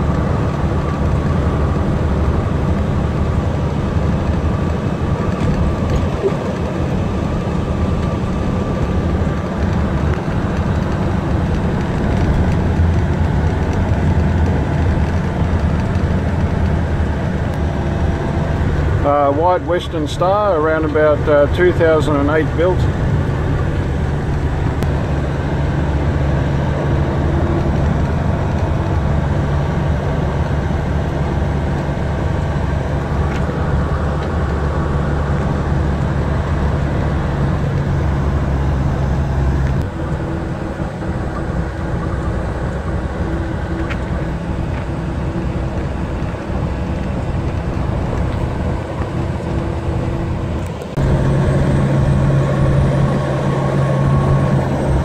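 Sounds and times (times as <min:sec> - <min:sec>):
diesel engine drone: 0:00.0 - 0:55.0
road rumble: 0:00.0 - 0:55.0.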